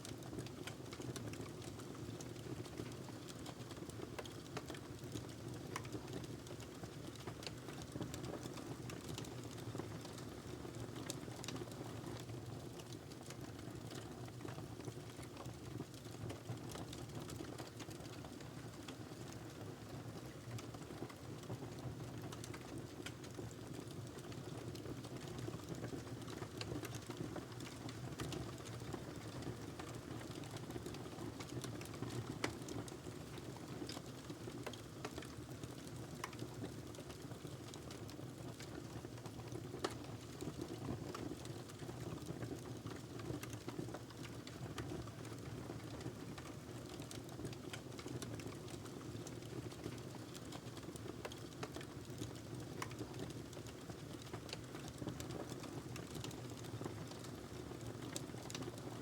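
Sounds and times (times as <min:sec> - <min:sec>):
wood fire crackling: 0:00.1 - 0:21.4, 0:22.2 - 0:58.9.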